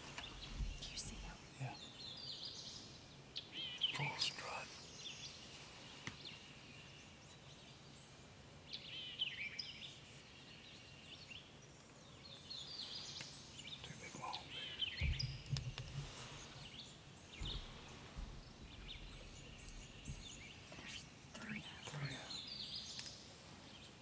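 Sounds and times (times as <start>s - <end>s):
small songbirds chirping: 0.0s - 24.0s.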